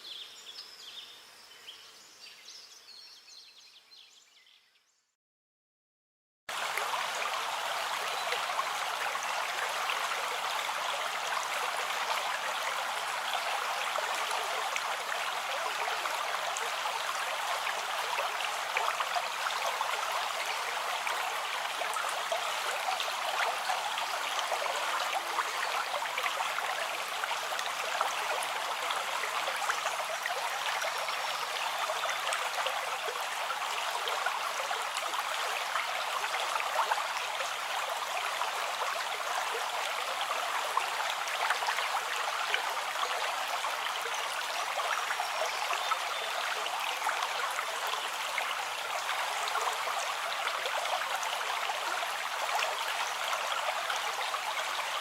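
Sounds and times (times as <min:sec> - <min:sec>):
stream flowing: 0:06.5 - 0:55.0.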